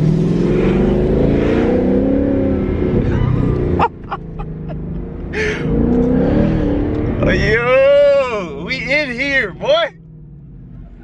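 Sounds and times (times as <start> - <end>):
car engine pulling: 0.0 - 11.0.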